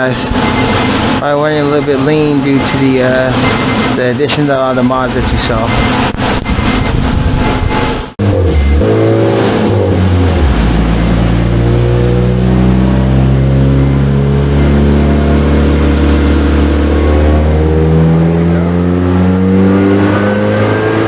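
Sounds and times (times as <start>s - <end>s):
car engine revving under load: 0.0s - 21.0s.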